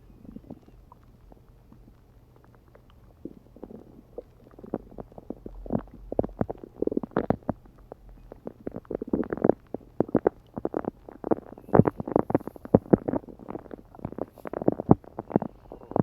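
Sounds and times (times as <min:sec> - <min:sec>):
stomach gurgling: 0:00.0 - 0:16.0.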